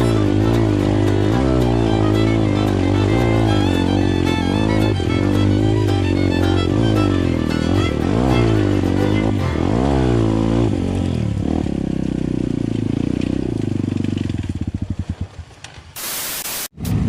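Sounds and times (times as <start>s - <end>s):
motorcycle engine revving and idling: 0.0s - 16.0s, 16.8s - 17.0s.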